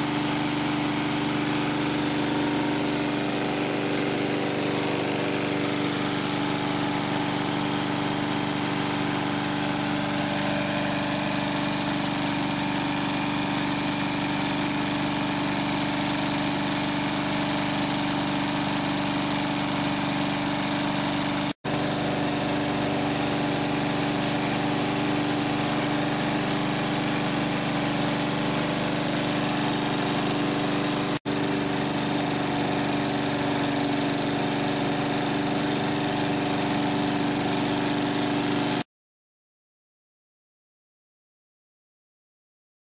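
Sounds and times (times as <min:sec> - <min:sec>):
lawn mower engine running: 0:00.0 - 0:38.8.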